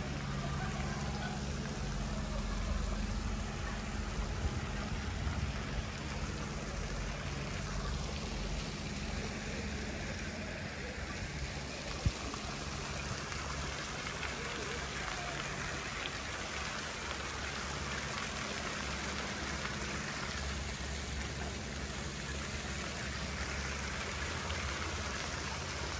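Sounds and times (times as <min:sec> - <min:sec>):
fountain water splashing: 0:00.0 - 0:25.9.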